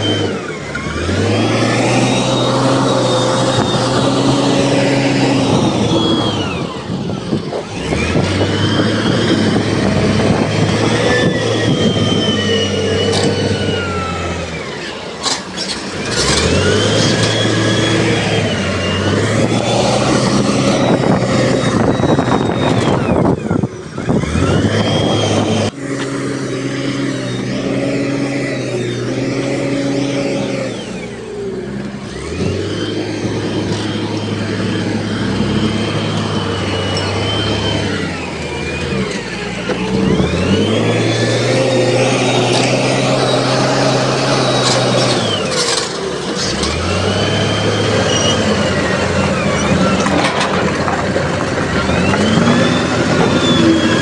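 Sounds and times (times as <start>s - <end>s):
diesel machinery engine revving: 0.0s - 54.0s.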